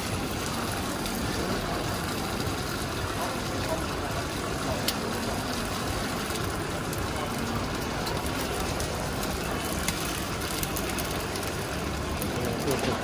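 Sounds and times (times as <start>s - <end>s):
food frying in hot pan: 0.0s - 13.0s.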